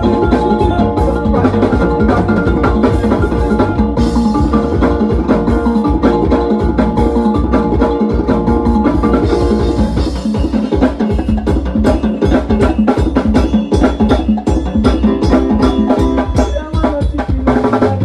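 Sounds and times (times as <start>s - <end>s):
music with heavy bass and percussion: 0.0s - 18.0s.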